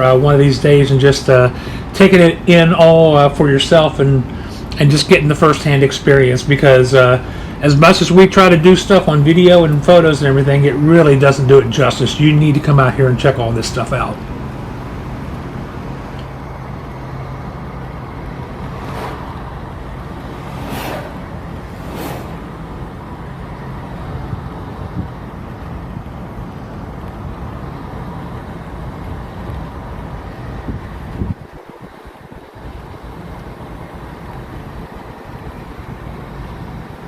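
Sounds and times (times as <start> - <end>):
car road and wind noise: 0.0 - 37.0
passing traffic whooshes: 0.0 - 37.0.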